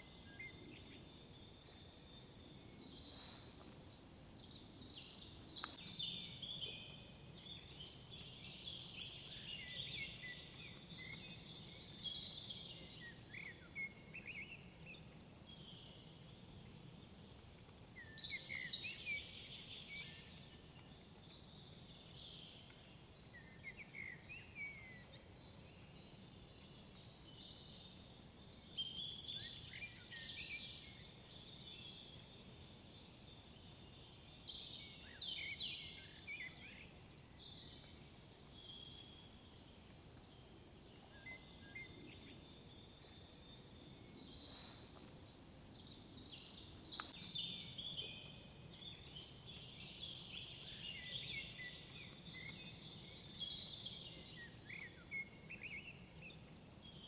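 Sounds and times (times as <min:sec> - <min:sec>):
faint low background hiss: 0:00.0 - 0:57.0
songbirds singing: 0:00.0 - 0:57.0.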